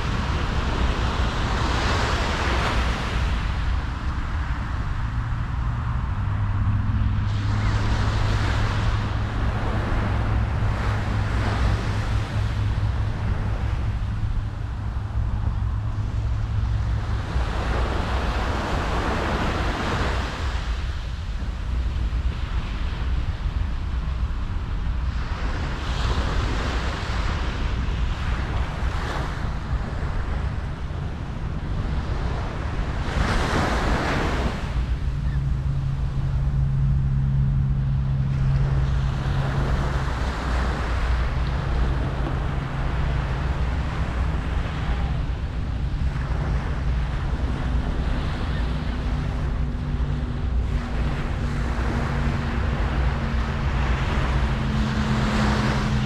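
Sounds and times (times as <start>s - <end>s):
ocean surf washing on beach: 0.0s - 56.0s
steady low hum: 0.0s - 56.0s
wind rumble on microphone: 0.0s - 56.0s.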